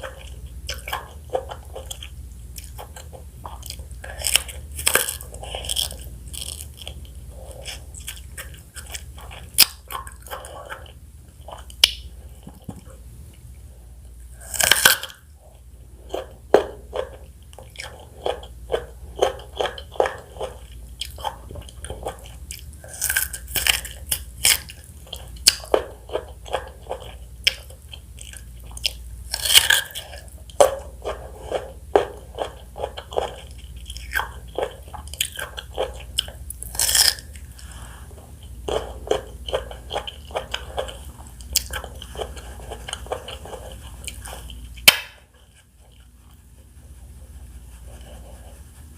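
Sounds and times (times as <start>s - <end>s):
chewing fruit: 0.0s - 48.9s.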